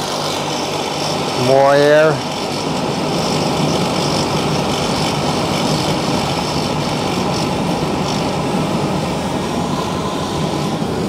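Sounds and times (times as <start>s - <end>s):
burner fan and flame rushing: 0.0s - 11.0s.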